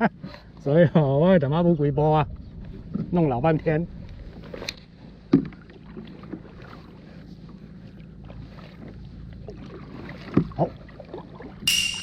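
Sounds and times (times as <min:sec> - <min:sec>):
water and wind wash: 0:01.1 - 0:12.0.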